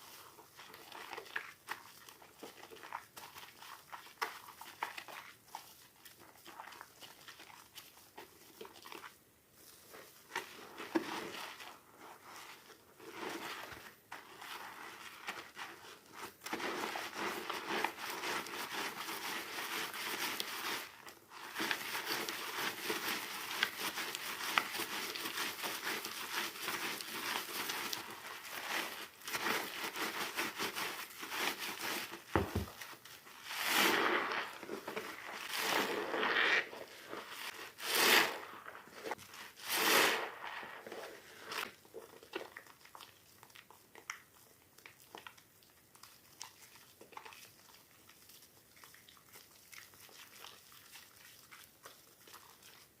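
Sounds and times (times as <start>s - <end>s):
wet soap crackling and squishing: 0.0s - 53.0s.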